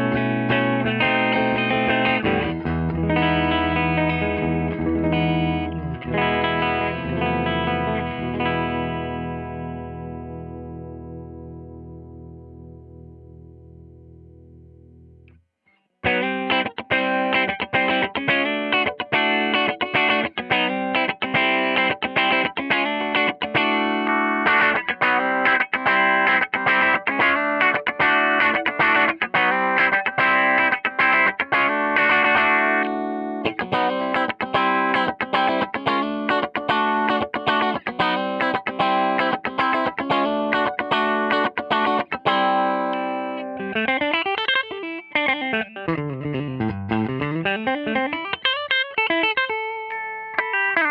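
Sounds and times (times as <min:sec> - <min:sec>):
electric guitar picked notes: 0:00.0 - 0:15.4, 0:16.0 - 0:50.9.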